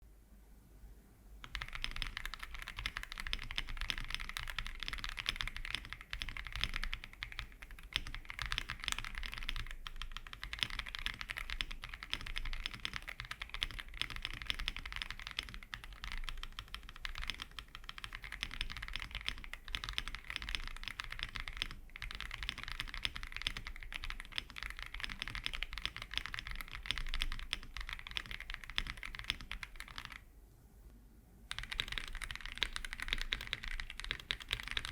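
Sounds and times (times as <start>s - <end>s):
fast typing on mechanical keyboard: 1.4s - 30.2s, 31.5s - 34.9s.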